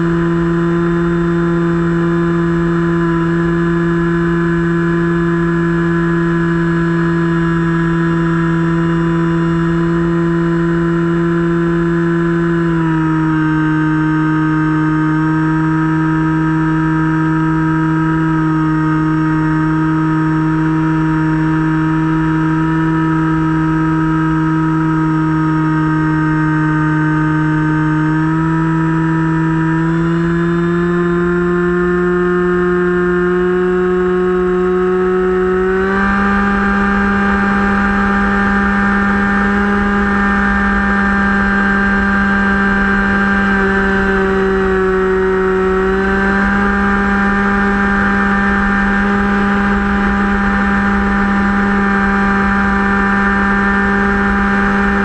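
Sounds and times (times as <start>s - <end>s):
electric motor and propeller whine: 0.0s - 55.0s.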